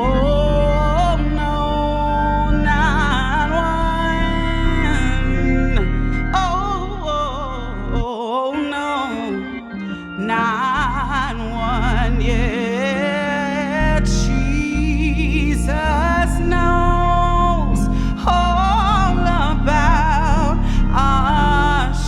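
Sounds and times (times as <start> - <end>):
deep bass line: 0.0 - 8.1, 10.4 - 12.7, 13.5 - 22.0
gospel organ chords: 0.0 - 22.0
woman singing: 0.0 - 22.0.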